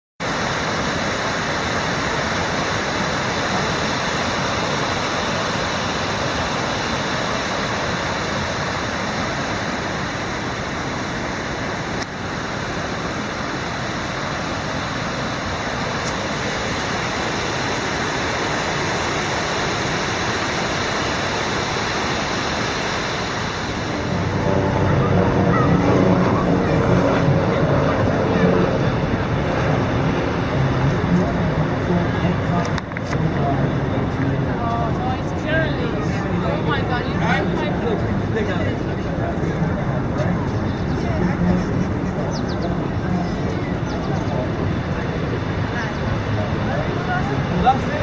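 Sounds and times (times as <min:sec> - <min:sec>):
rush of falling water: 0:00.2 - 0:40.5, 0:42.8 - 0:48.0.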